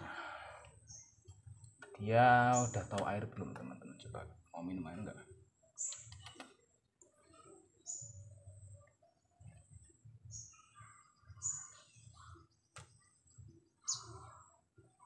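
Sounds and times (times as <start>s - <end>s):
small bird chirping: 0.8s - 3.8s, 4.4s - 15.0s.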